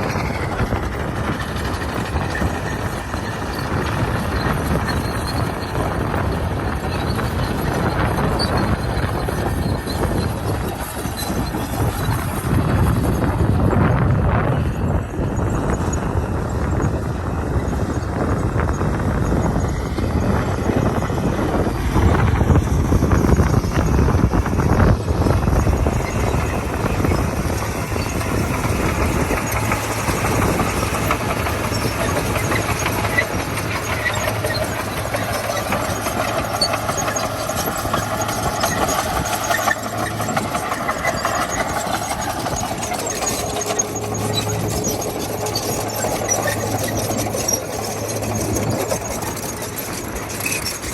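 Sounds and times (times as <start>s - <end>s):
high squeal: 0.0s - 13.3s, 15.0s - 50.9s
bulldozer diesel engine running: 0.0s - 50.9s.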